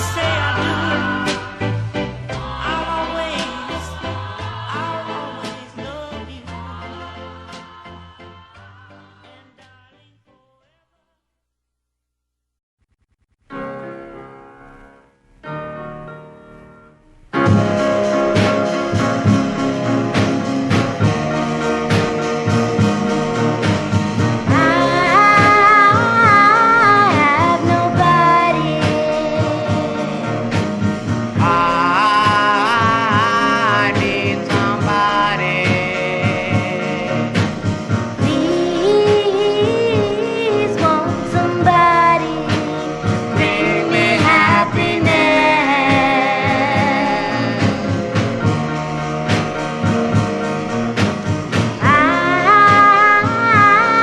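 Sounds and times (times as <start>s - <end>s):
soul record playing: 0.0s - 10.8s, 12.8s - 54.0s.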